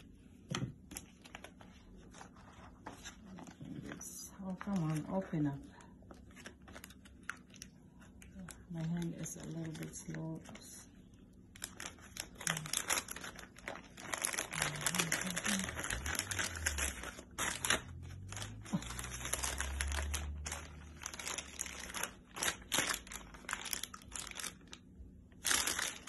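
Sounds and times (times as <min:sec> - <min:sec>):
plastic bag crinkling: 0:03.2 - 0:26.0.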